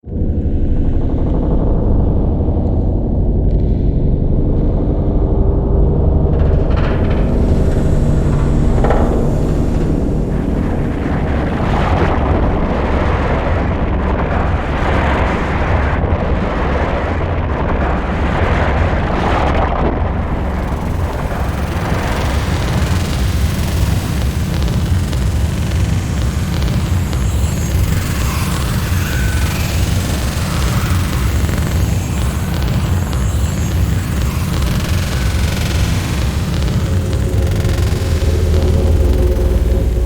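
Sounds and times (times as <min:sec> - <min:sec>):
dark ambient drone: 0:00.0 - 0:40.0.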